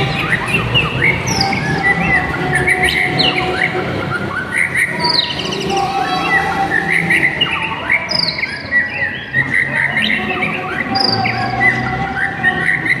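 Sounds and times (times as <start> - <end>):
bird singing whistled phrases: 0.0 - 13.0.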